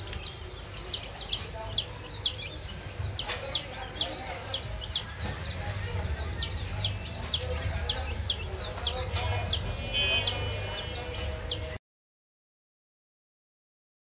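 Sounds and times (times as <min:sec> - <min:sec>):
baby chicks peeping: 0:00.0 - 0:11.8.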